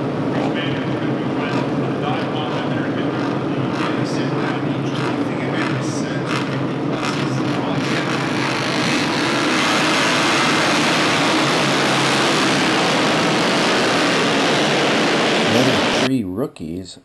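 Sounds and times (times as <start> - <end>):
racing motorcycles at speed: 0.0 - 16.1.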